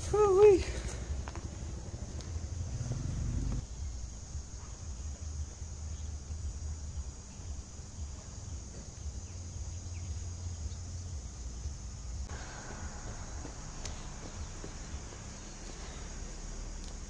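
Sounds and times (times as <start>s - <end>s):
insects hissing: 0.0s - 17.0s
mid-pitched buzz: 1.2s - 17.0s.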